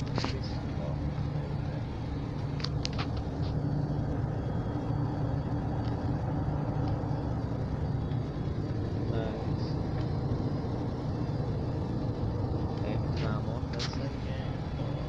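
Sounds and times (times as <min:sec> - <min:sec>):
airliner engines droning: 0:00.0 - 0:15.0.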